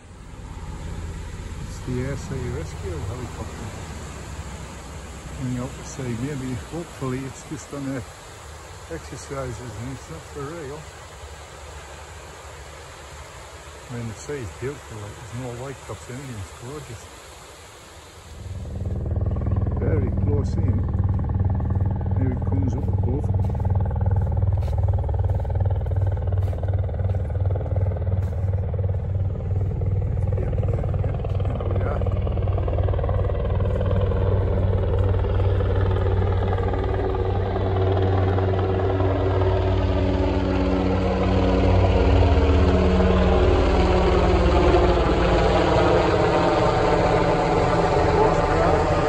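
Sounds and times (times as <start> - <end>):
helicopter rotor beating: 0.0 - 17.2, 18.2 - 49.0.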